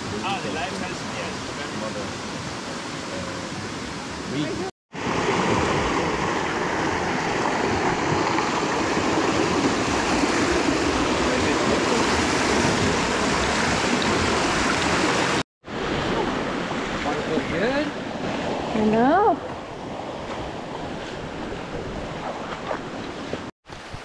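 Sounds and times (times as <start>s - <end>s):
rushing river water: 0.0s - 24.0s.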